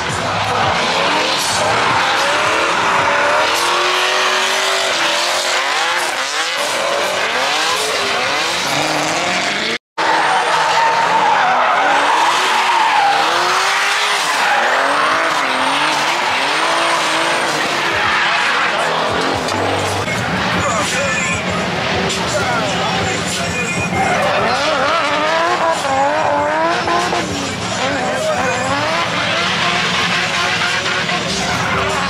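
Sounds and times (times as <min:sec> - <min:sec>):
car engine revving: 0:00.0 - 0:32.0
tires squealing and skidding: 0:00.0 - 0:32.0.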